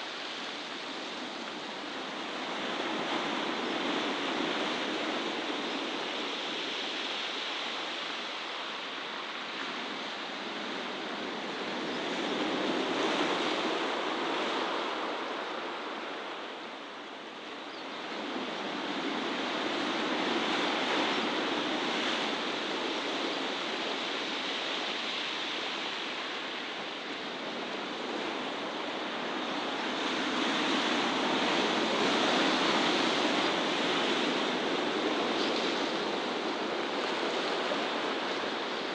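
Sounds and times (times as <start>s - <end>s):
waves on rocky shore: 0.1s - 38.9s.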